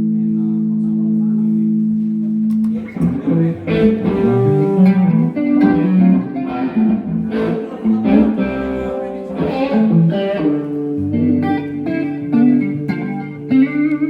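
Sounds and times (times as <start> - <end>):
electric guitar through amplifier: 0.0 - 14.0.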